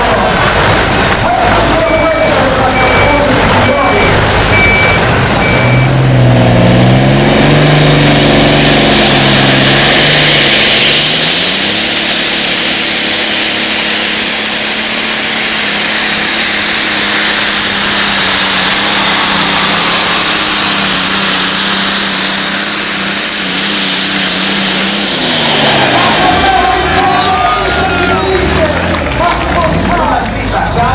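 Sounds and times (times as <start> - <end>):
tractor engine revving: 0.0 - 30.9.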